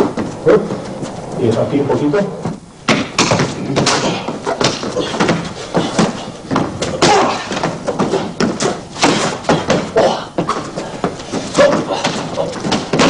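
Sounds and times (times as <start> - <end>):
bodies colliding and thudding: 2.4 - 13.0.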